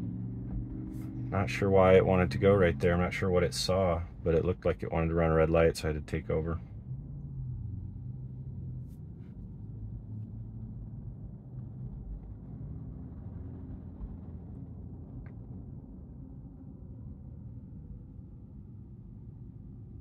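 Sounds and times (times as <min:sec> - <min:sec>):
muffled traffic rumble: 0:00.0 - 0:20.0.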